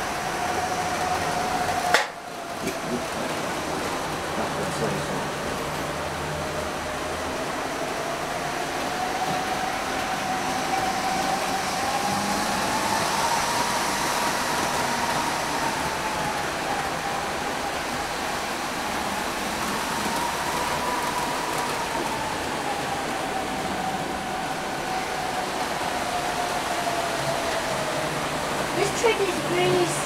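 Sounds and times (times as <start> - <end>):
wheels hissing on track: 0.0 - 30.0.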